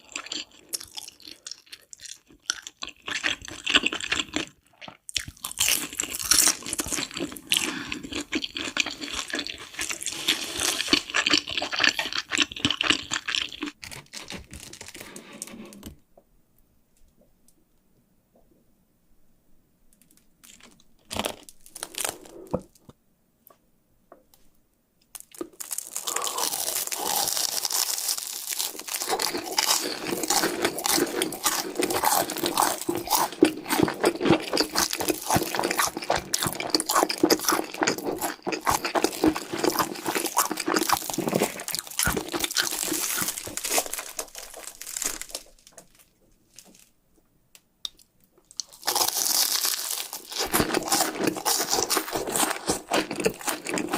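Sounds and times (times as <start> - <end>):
biting and chewing crunchy snacks: 0.0 - 15.4, 20.0 - 22.9, 25.1 - 46.9, 47.9 - 53.9.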